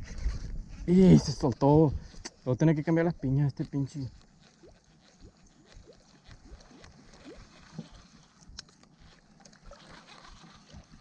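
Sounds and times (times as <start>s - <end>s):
water lapping against boat hull: 1.6s - 11.0s.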